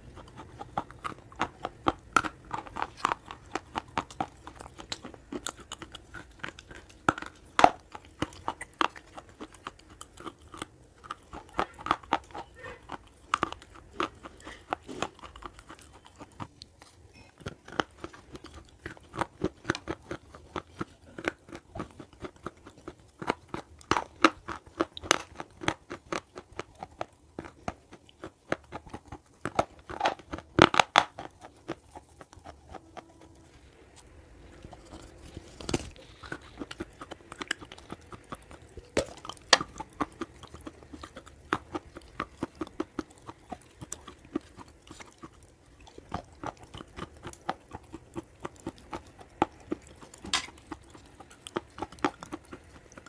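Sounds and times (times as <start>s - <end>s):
brittle crunching chewing: 0.0s - 53.0s.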